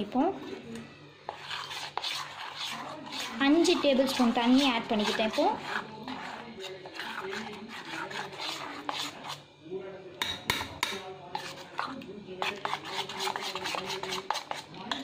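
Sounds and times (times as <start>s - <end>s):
spoon scraping metal bowl: 0.0s - 9.6s, 10.2s - 15.0s.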